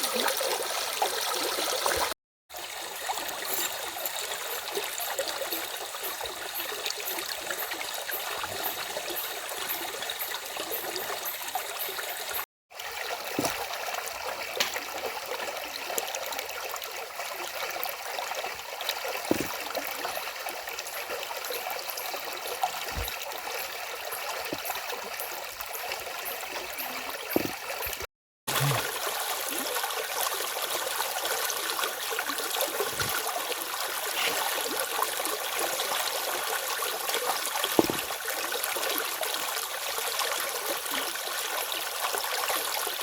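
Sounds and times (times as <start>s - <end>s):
stream running: 0.0s - 43.0s.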